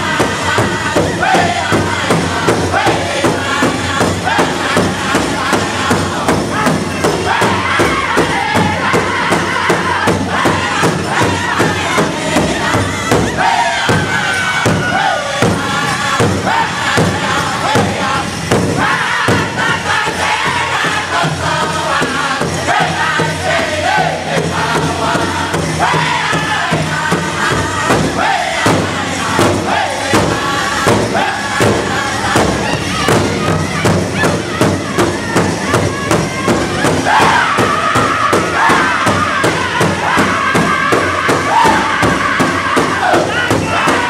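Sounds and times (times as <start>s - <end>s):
large drum beating steadily: 0.0s - 44.0s
men chanting together: 0.0s - 44.0s.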